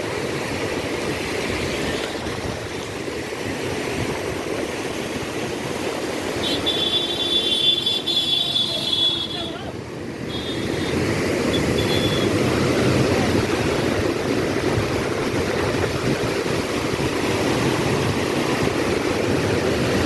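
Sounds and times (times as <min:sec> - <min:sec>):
water rushing from dam gates: 0:00.0 - 0:20.0.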